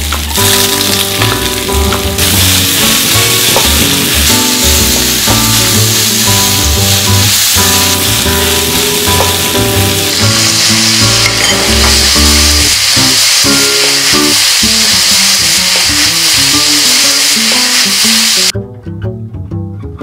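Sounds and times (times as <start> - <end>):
food sizzling in a frying pan: 0.0 - 18.5
background music: 0.0 - 20.0.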